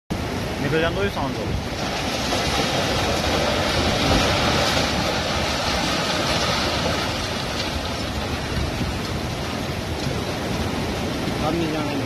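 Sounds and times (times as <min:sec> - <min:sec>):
rushing floodwater and building collapse: 0:00.2 - 0:12.0.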